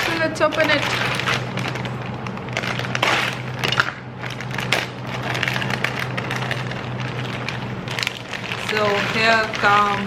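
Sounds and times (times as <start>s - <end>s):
plastic wrapper tearing and crinkling: 0.0s - 10.0s.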